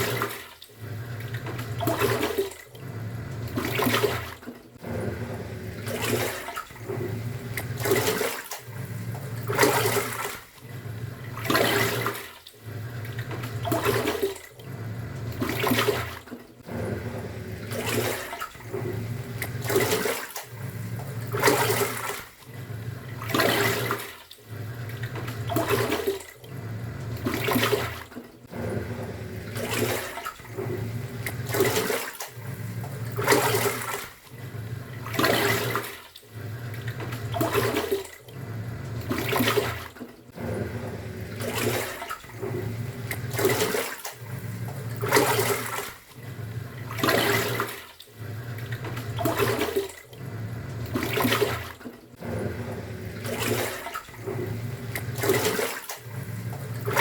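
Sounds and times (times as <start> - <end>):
washing machine motor hum: 0.0 - 57.0
water sloshing: 0.0 - 57.0.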